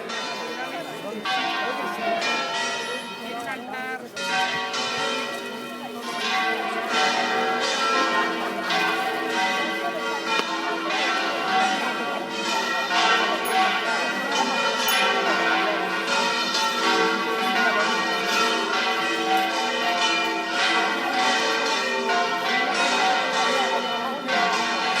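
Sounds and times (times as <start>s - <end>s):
church bells ringing: 0.0s - 25.0s.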